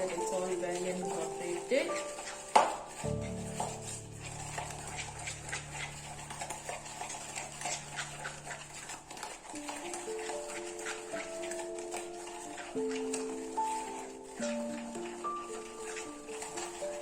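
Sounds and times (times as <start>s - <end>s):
background music: 0.0s - 17.0s
utensil scraping mixing bowl: 0.0s - 17.0s.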